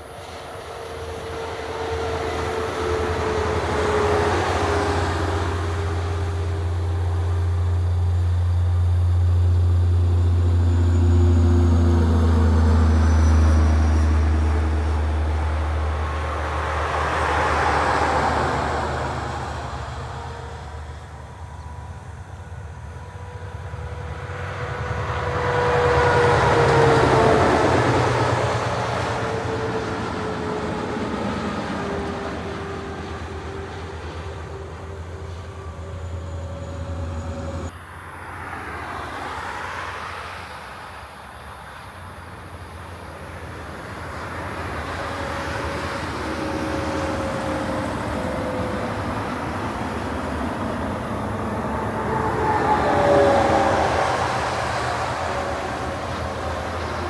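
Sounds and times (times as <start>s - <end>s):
steady traffic: 0.0s - 57.0s
trucks passing: 0.0s - 57.0s.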